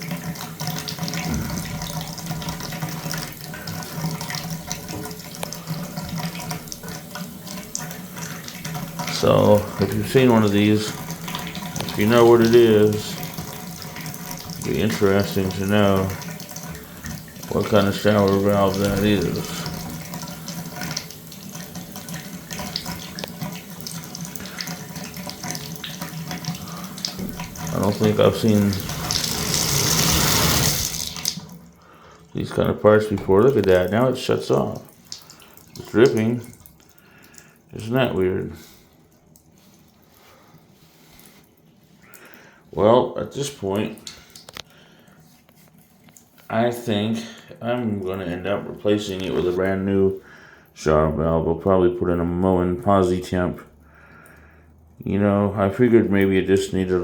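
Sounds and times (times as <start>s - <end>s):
shower water running: 0.0s - 57.0s.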